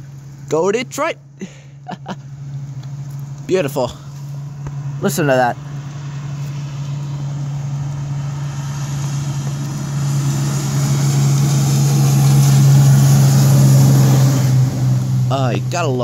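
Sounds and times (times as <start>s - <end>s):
fire engine diesel engine droning: 1.2s - 16.0s.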